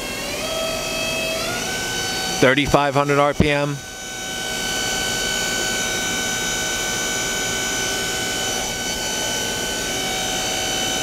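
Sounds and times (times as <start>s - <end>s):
machine spindle whining: 0.0s - 11.0s
mechanical hum: 0.0s - 11.0s.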